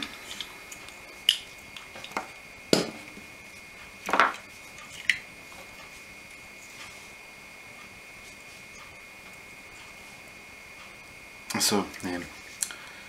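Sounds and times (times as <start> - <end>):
faint steady high whine: 0.0 - 13.0.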